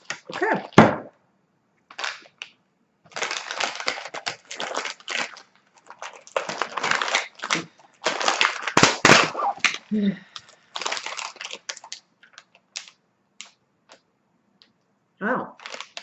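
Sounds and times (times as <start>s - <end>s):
plastic packaging crinkling: 0.0s - 0.8s, 1.9s - 14.0s, 15.6s - 16.0s.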